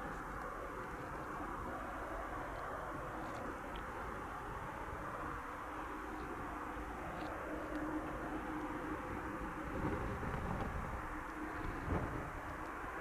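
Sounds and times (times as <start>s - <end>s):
distant jet engines idling: 0.0s - 13.0s
faint steady hum: 0.0s - 13.0s.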